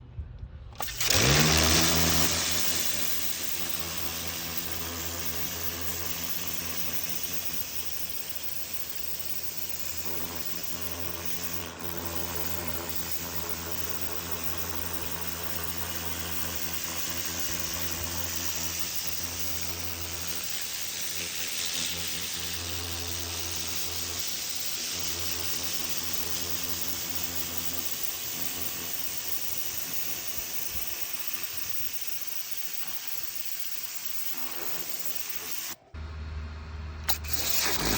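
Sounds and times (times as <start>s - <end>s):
pressure washer motor hum: 0.7s - 37.9s
water jet spraying on wood: 0.8s - 35.8s, 37.1s - 37.9s.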